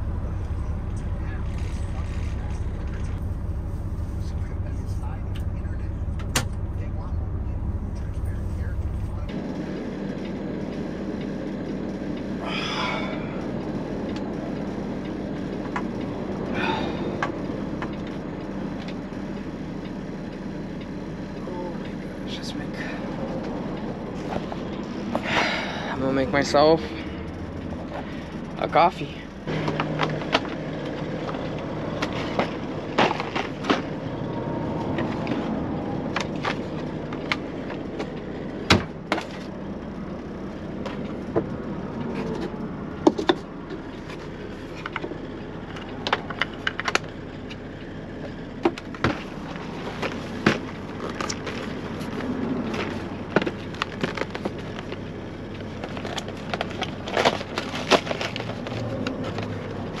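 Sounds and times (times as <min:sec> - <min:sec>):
steady low hum: 0:00.0 - 1:00.0.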